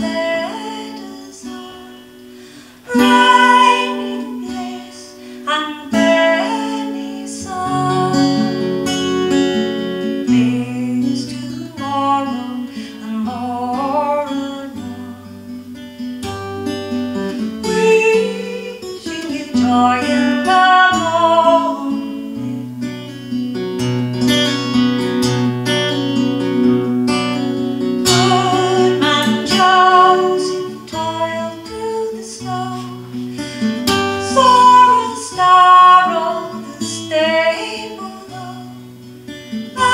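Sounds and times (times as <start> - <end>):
woman singing: 0.0 - 16.0, 16.6 - 23.0, 28.0 - 39.9
acoustic guitar: 0.0 - 39.9.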